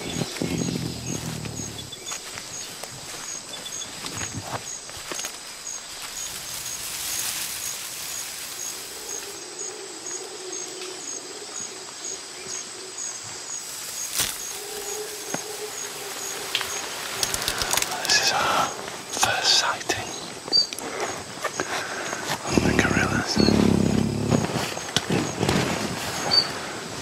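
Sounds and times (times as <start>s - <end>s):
insect chirping: 0.0s - 25.4s.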